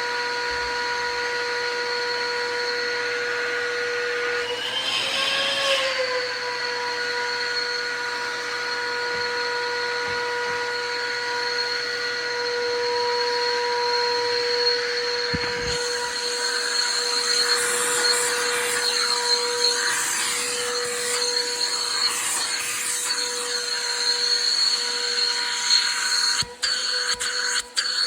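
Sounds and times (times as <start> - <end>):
shop vacuum motor whine: 0.0 - 28.0.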